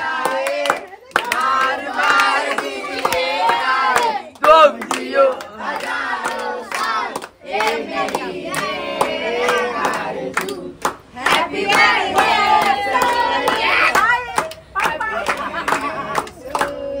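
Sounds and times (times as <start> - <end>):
group singing and shouting: 0.0 - 17.0
hand claps: 0.2 - 16.8.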